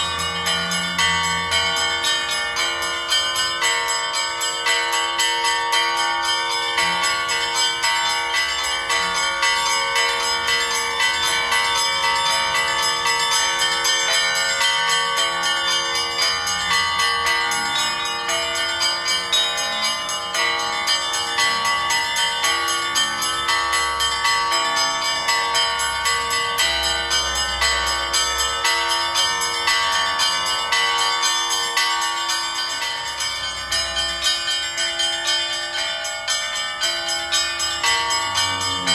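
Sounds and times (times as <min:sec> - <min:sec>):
bells ringing: 0:00.0 - 0:38.9.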